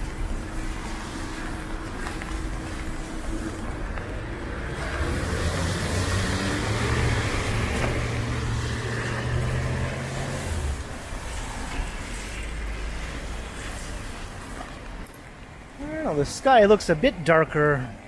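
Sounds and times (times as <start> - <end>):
tyres hissing on wet pavement: 0.0 - 17.9.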